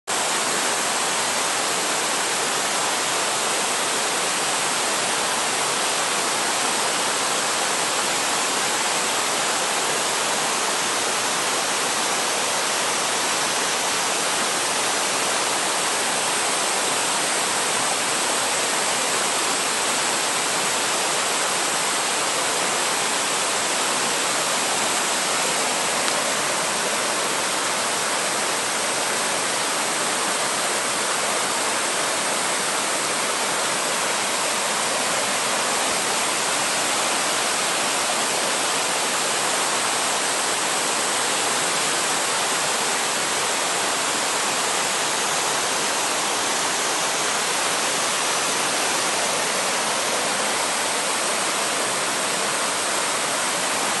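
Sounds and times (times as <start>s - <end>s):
waterfalls splashing over boulders: 0.1s - 54.0s.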